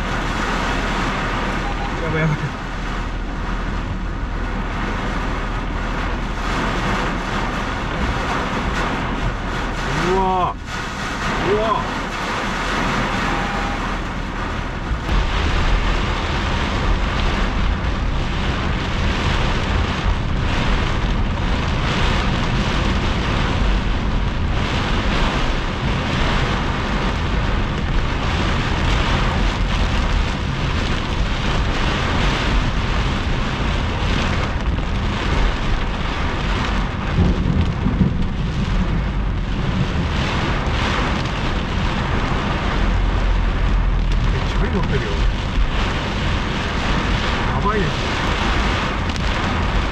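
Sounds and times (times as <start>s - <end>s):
heavy rain on car roof: 0.0s - 49.9s.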